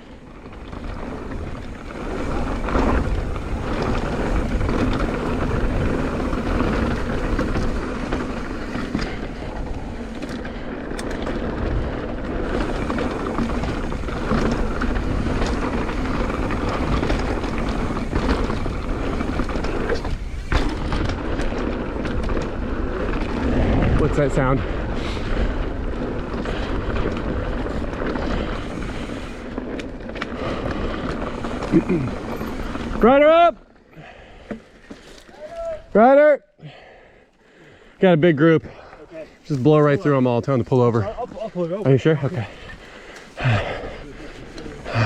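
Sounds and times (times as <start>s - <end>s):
bike rattling: 0.0s - 36.1s, 37.7s - 45.0s
bike tyres rolling on dirt: 0.0s - 45.0s.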